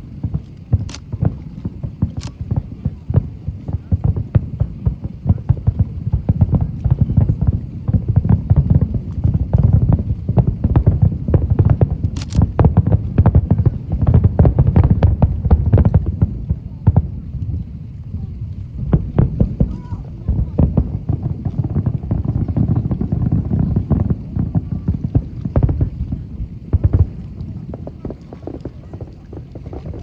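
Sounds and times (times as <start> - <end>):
fireworks booming: 0.0 - 30.0.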